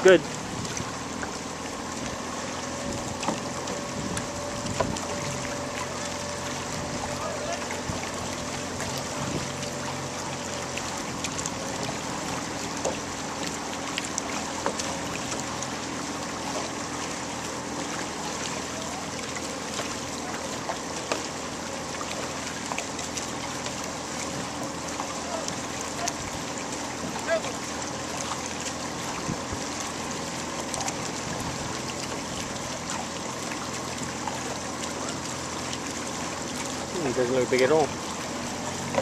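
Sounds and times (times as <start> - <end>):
paddles splashing: 0.0 - 39.0
water rushing and lapping: 0.0 - 39.0.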